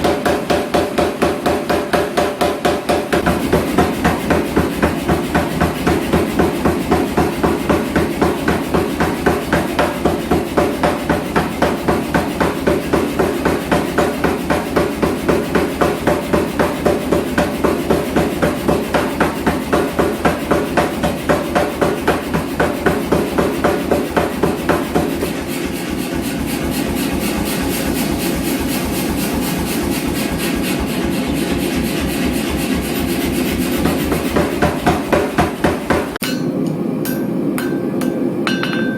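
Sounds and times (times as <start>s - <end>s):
power hammer striking hot steel: 0.0s - 29.6s, 33.2s - 38.9s
machine running: 0.0s - 38.5s.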